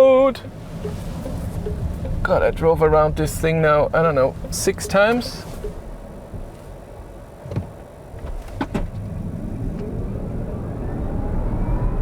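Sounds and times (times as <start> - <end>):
road rumble: 0.0 - 12.0.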